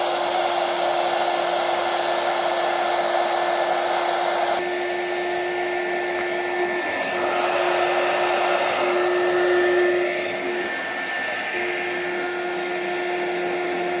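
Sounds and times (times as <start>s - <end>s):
hot-air blower fan humming: 0.0s - 14.0s.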